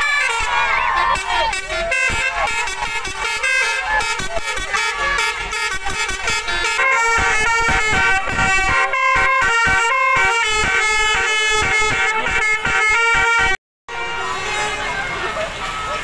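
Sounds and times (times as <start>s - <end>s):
multi-tone bus air horn tune: 0.0s - 15.2s.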